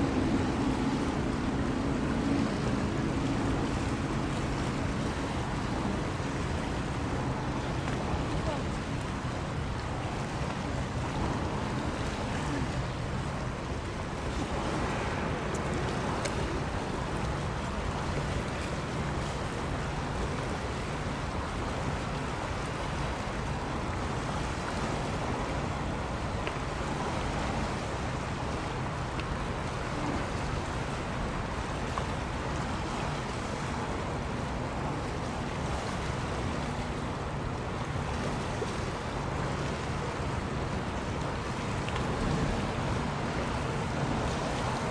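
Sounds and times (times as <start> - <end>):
low ship engine hum: 0.0 - 44.9
sea noise: 0.0 - 44.9
wind: 0.0 - 44.9.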